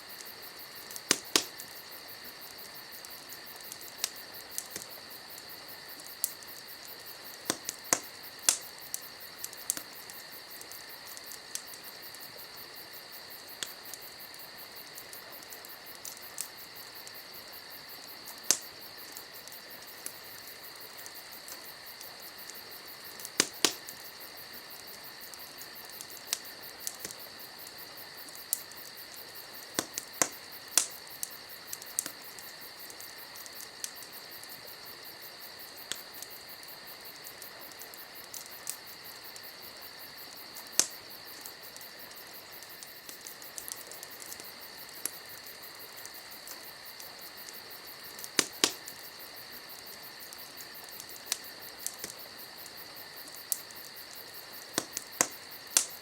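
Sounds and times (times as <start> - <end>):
campfire crackling and popping: 0.0 - 56.0
crickets chirring: 0.0 - 56.0.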